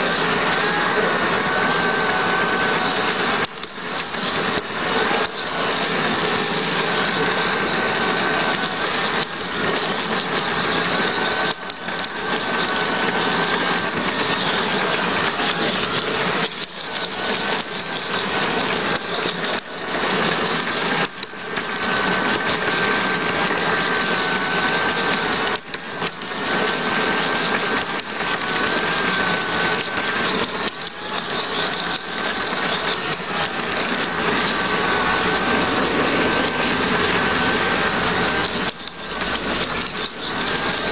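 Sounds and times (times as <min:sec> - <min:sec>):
faint motor whine: 0:00.0 - 0:40.9
model train rattling on track: 0:00.0 - 0:40.9.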